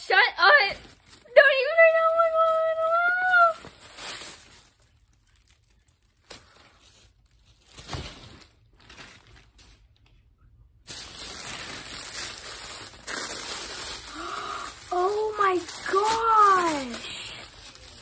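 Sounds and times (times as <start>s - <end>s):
paper packaging rustling and tearing: 0.4s - 10.1s, 10.9s - 18.0s.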